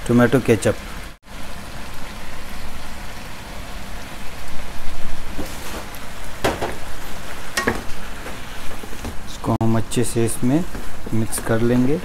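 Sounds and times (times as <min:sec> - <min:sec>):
food sizzling in a frying pan: 0:01.1 - 0:12.0.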